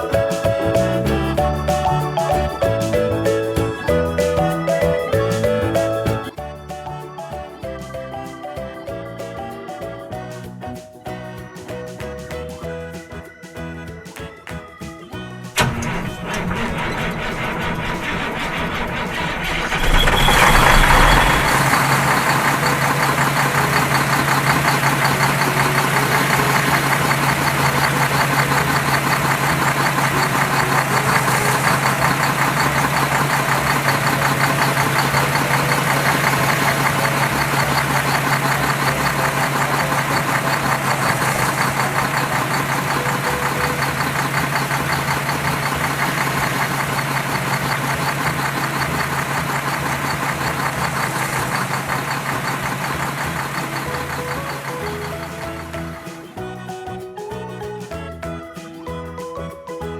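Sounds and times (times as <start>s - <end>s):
vehicle engine idling: 0.0s - 10.8s, 15.5s - 56.8s.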